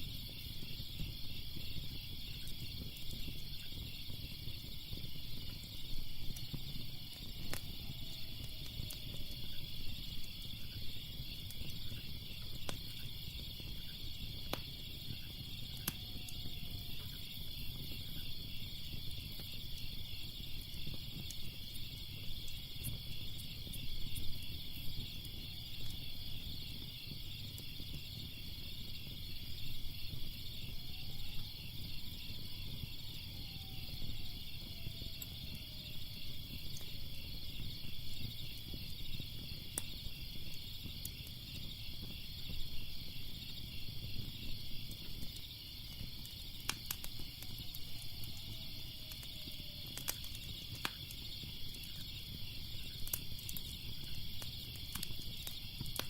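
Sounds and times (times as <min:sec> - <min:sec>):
crickets chirping: 0:00.0 - 0:56.0
fire crackling pops: 0:00.0 - 0:56.0.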